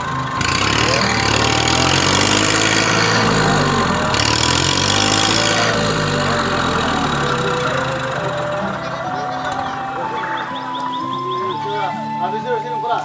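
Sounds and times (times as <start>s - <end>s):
tractor diesel engine revving: 0.0s - 12.4s.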